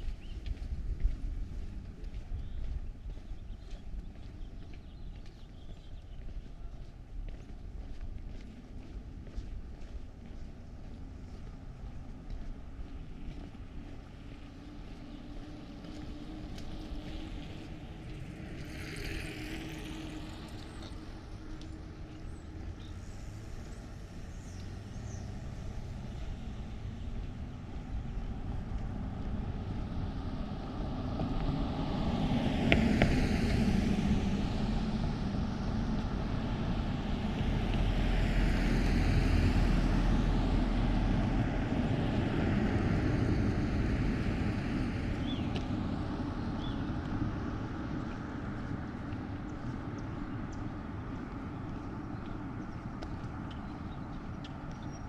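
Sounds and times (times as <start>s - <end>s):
cars passing by: 0.0s - 55.0s.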